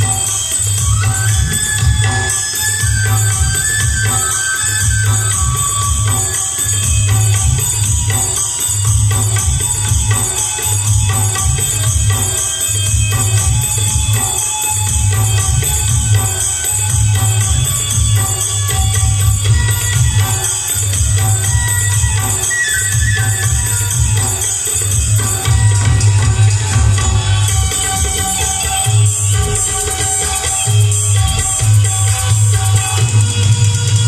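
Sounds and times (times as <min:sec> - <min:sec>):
folk dance music: 0:00.0 - 0:34.0.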